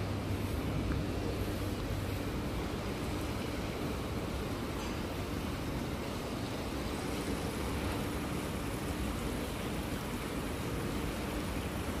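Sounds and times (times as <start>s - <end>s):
faint steady hum: 0.0s - 12.0s
fountain water rushing: 0.0s - 12.0s.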